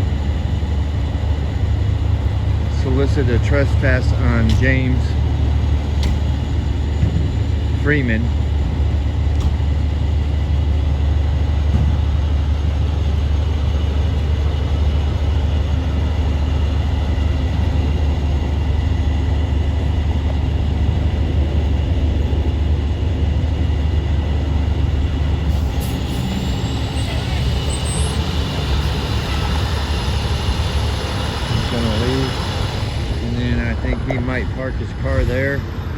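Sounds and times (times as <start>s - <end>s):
faint steady whines: 0.0s - 35.9s
vehicle engine rumbling: 0.0s - 35.9s.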